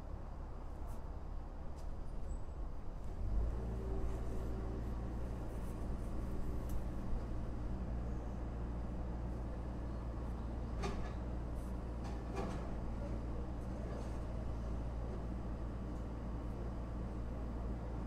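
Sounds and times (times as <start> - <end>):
heavy machinery engine rumble: 0.0 - 18.0.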